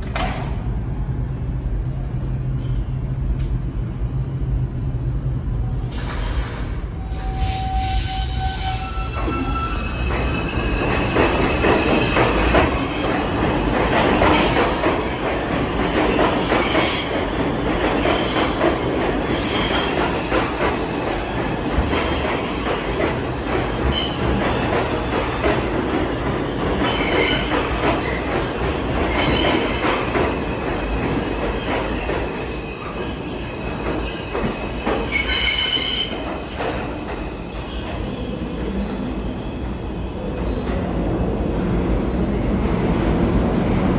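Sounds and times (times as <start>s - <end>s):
steel wheels on rail: 5.8s - 43.9s.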